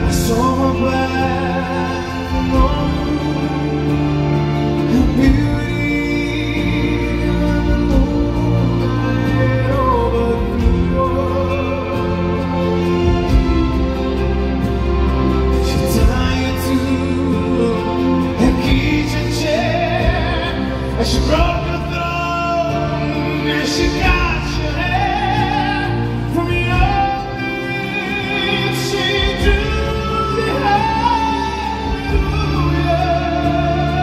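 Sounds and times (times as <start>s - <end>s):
man singing ballad: 0.0s - 34.0s
soft instrumental accompaniment: 0.0s - 34.0s.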